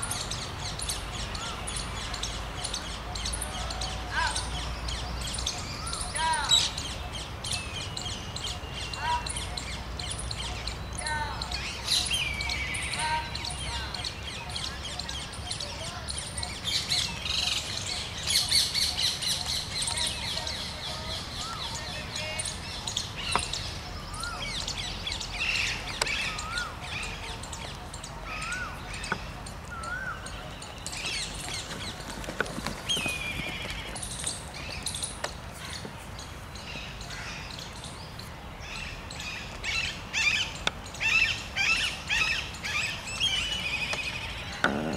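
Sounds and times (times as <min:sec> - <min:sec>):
birds chirping and calling: 0:00.0 - 0:44.9
outdoor background noise: 0:00.0 - 0:44.9.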